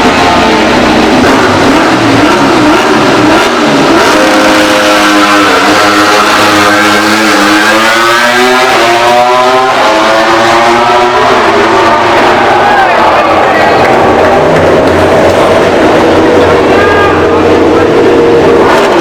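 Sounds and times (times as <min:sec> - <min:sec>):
racing motorcycle engine revving: 0:00.0 - 0:19.0.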